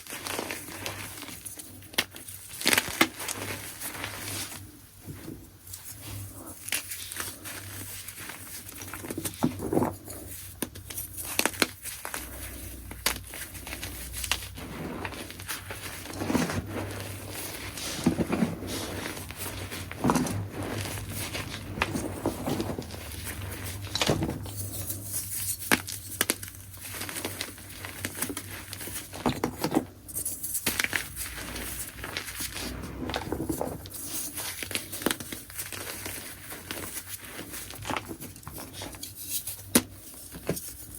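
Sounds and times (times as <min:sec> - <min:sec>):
chalk crumbling and crunching: 0:00.0 - 0:40.9.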